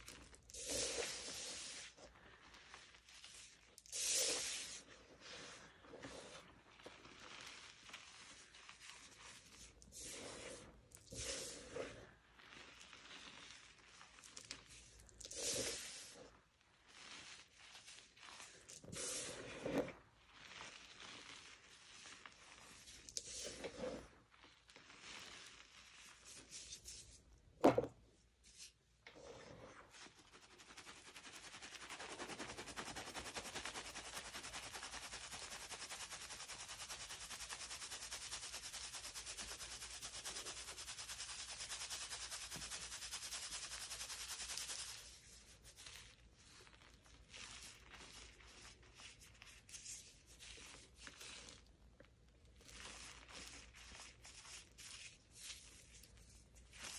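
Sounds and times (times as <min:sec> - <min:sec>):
chalk powder sifting through strainer: 0:00.0 - 0:27.2, 0:28.4 - 0:51.7, 0:52.6 - 0:56.9.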